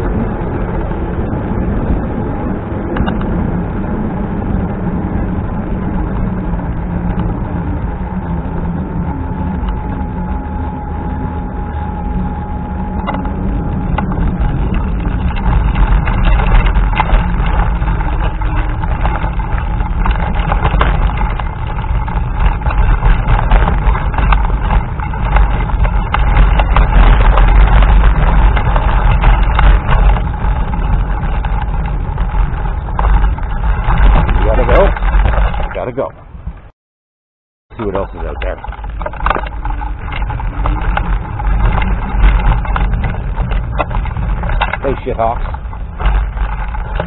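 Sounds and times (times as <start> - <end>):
scooter motor running: 0.0 - 36.2, 37.8 - 47.0
wind buffeting microphone: 0.0 - 36.7, 37.7 - 47.0.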